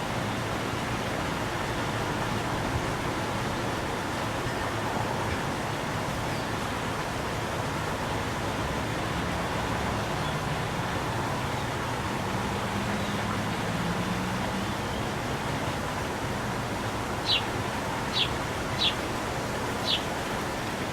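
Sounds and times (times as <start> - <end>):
low engine hum: 0.0 - 20.9
traffic rush: 0.0 - 20.9.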